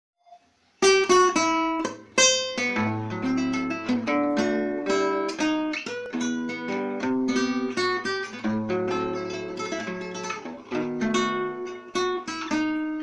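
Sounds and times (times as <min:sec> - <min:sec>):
classical acoustic guitar: 0:00.3 - 0:13.0.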